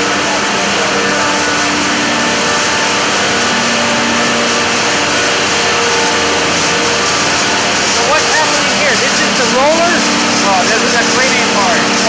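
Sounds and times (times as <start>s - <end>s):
machinery running with humming tones: 0.0s - 12.0s.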